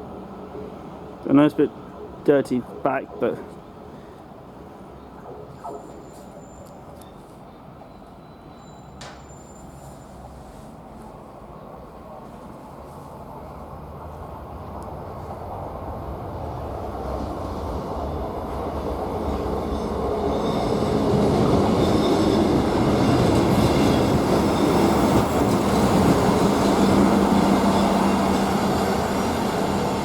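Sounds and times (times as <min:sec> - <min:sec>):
train running on track: 0:00.0 - 0:30.0.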